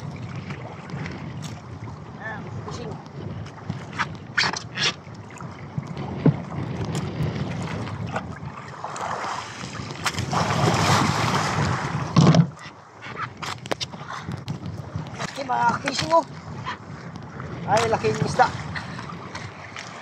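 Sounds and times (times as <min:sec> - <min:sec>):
water splashing against boat: 0:00.0 - 0:20.0
wind on microphone: 0:00.0 - 0:20.0.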